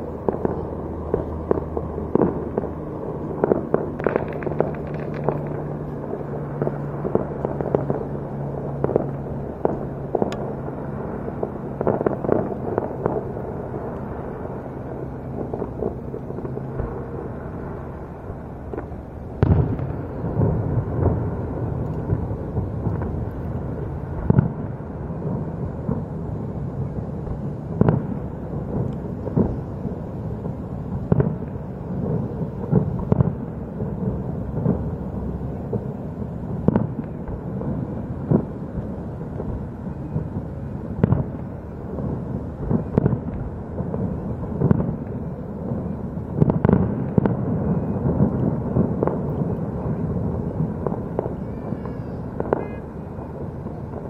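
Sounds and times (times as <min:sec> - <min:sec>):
distant fireworks booms: 0:00.0 - 0:54.0
steady low rumble: 0:00.0 - 0:54.0.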